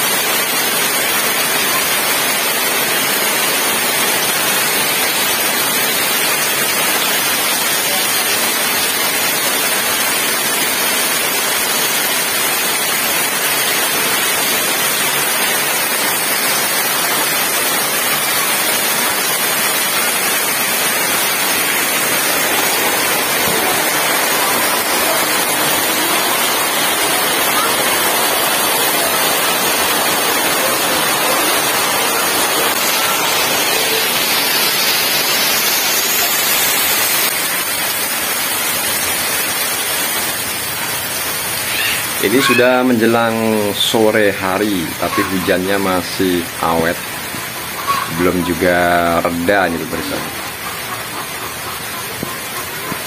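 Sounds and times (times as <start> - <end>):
rain pouring off a roof: 0.0 - 53.0
water splashing onto ground: 0.0 - 53.0.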